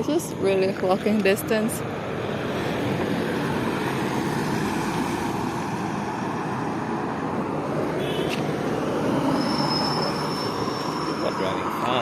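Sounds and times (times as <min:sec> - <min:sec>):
highway traffic: 0:00.0 - 0:12.0.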